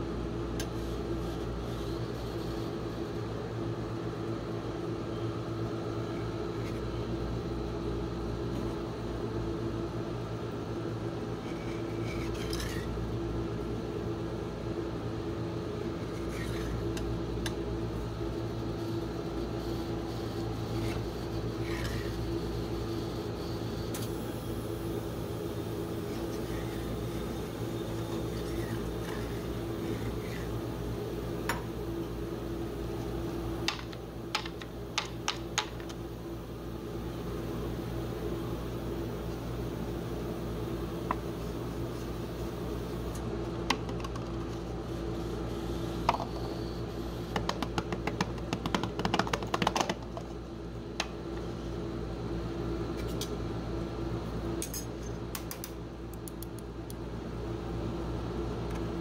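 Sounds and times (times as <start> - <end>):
refrigeration unit hum: 0.0 - 59.0.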